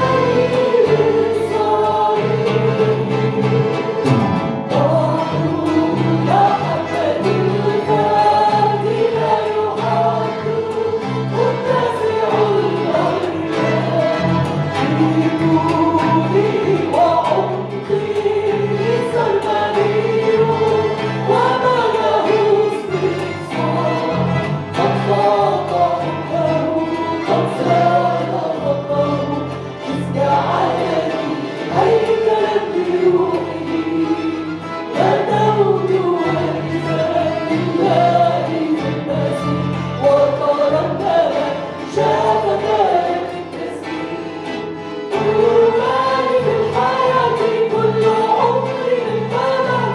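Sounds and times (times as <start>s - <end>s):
group singing a hymn: 0.0s - 49.9s.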